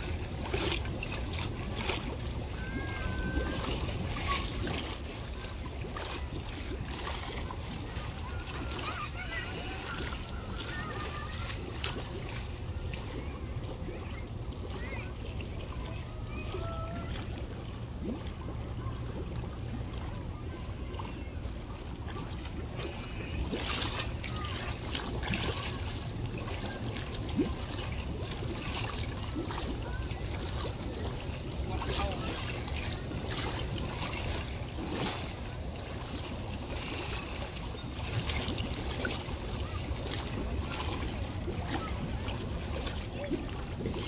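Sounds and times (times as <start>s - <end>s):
fish splashing at water surface: 0.0s - 44.0s.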